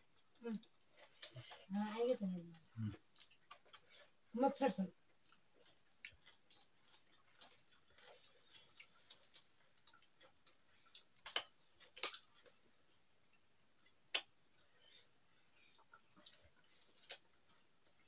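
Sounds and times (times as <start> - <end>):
people eating by hand: 0.0 - 18.0.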